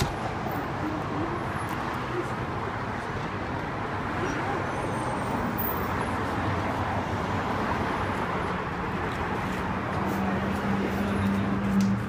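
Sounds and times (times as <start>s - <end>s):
hum of passing cars: 0.0s - 12.0s.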